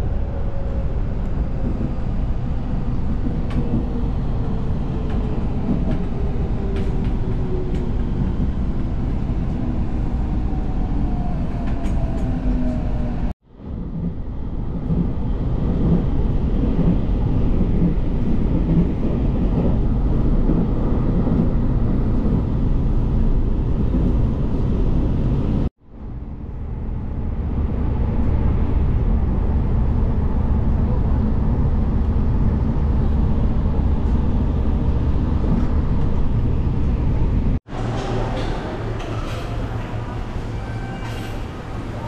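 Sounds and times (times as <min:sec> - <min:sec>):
electric train rumble: 0:00.0 - 0:42.0.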